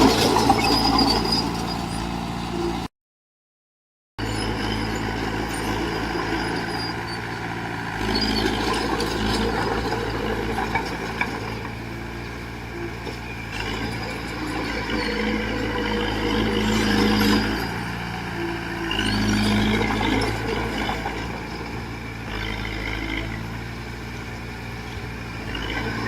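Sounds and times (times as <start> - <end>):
heavy diesel engine running: 0.0 - 2.9, 4.2 - 26.0.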